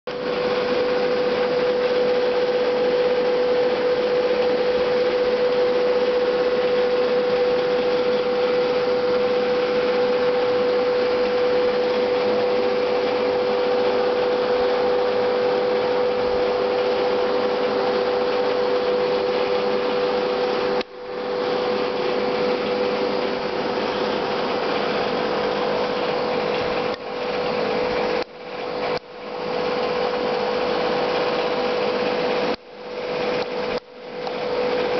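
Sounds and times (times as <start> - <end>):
air hissing and bubbling: 0.1 - 34.9
electric pump hum: 0.1 - 34.9.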